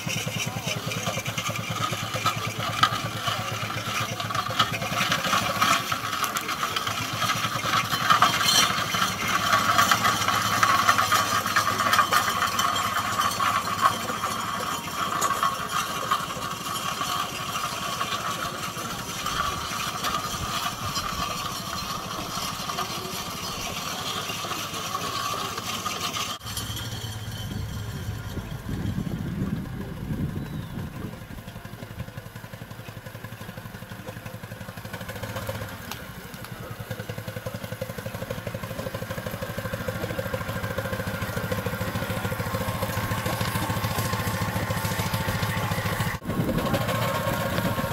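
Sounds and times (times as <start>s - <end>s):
steam engine exhaust beats: 0.0s - 47.9s.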